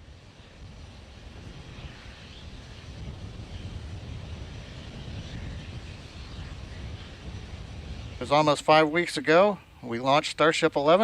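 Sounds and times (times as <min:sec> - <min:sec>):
outdoor ambient rumble: 0:00.0 - 0:11.0
wind-like hiss: 0:00.0 - 0:11.0.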